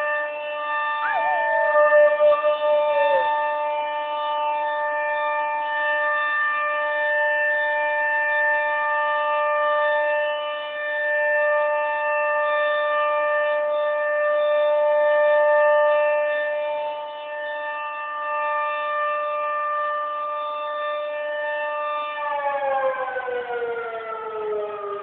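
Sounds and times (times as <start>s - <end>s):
tornado warning siren wailing: 0.0s - 25.0s.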